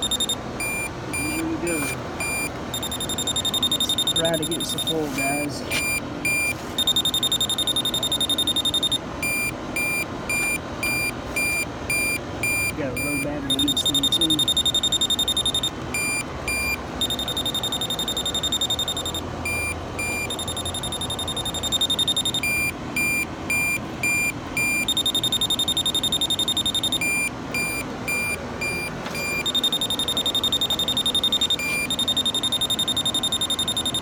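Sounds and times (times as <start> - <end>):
rapid high-pitched beeping: 0.0 - 34.0
slower low beeps: 0.0 - 34.0.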